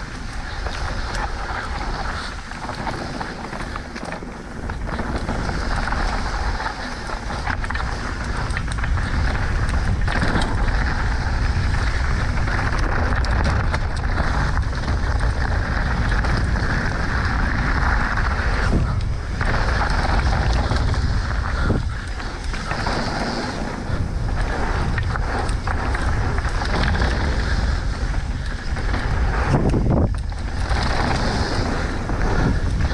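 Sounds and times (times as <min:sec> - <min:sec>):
small rattles: 0:00.0 - 0:32.9
wind buffeting microphone: 0:00.0 - 0:32.9.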